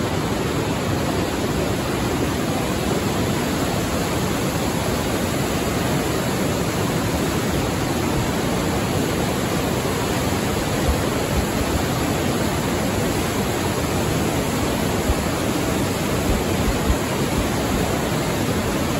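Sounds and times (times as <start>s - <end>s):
water torrent roaring: 0.0s - 18.9s.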